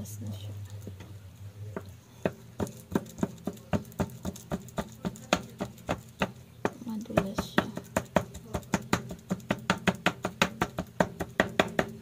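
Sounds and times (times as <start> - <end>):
knife chopping bananas: 1.8 - 12.0.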